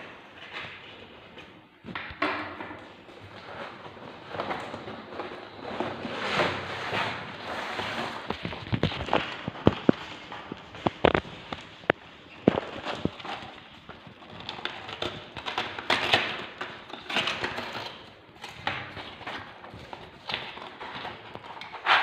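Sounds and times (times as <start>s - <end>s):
packaging rustling and crinkling: 2.8s - 22.0s.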